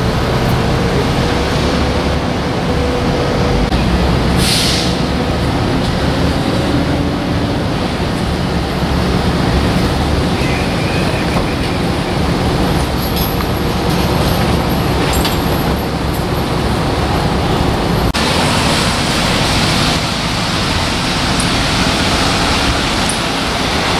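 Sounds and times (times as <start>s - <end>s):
idling vehicles rumbling: 0.0s - 23.9s
street traffic: 0.0s - 23.9s.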